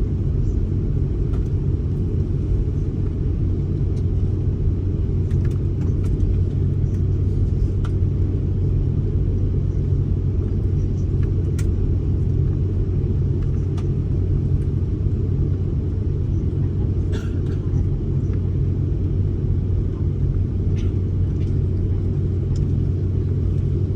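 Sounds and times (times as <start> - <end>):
airliner cabin rumble: 0.0 - 23.9.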